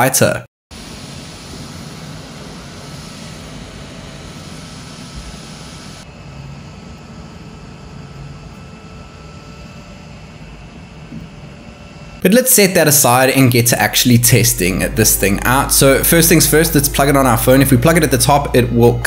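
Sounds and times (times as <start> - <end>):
small cooling fan whooshing: 0.8 - 19.0.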